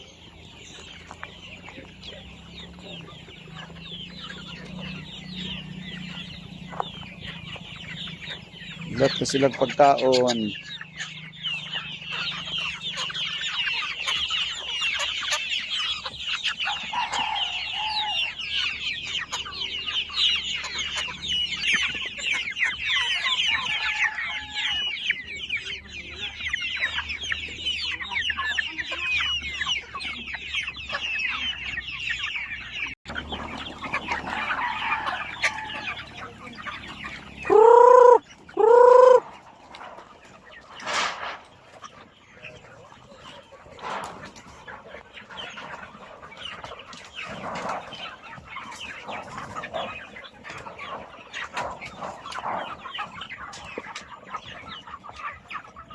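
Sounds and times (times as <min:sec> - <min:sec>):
chickens clucking and peeping: 0:00.0 - 0:55.9
loud drawn-out chicken calls: 0:00.0 - 0:55.9.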